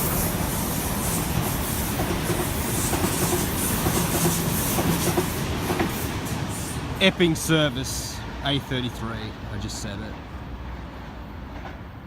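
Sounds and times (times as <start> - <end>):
electric train rumbling past: 0.0 - 12.0.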